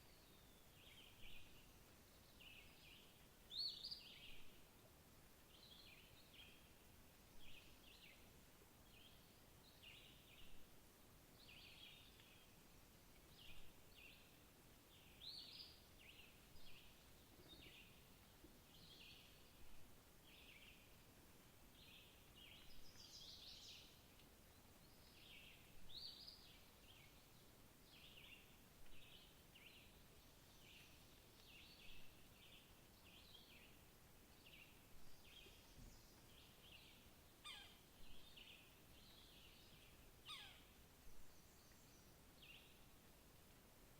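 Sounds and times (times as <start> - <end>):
background hiss: 0.0 - 43.9.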